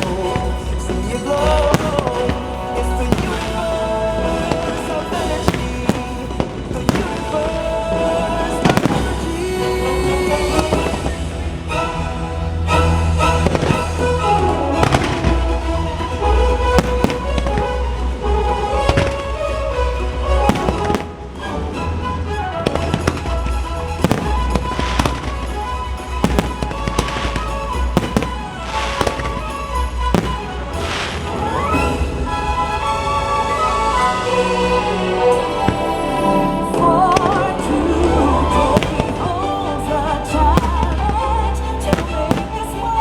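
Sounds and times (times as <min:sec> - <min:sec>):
fireworks bursting: 0:00.0 - 0:21.9, 0:22.6 - 0:36.5, 0:37.1 - 0:43.0
loud music playing: 0:00.0 - 0:43.0.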